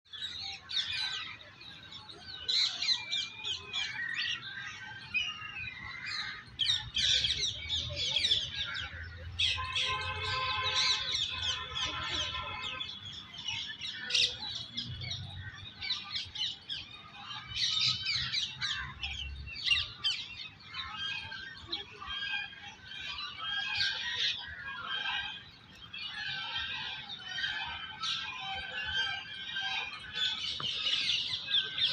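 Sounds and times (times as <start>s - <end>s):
birds chirping and trilling: 0.1s - 31.9s.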